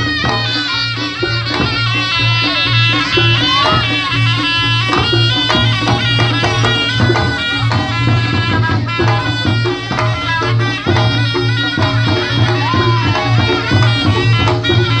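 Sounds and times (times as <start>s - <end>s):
reedy shawm melody: 0.0s - 15.0s
rhythmic drum strokes: 0.0s - 15.0s.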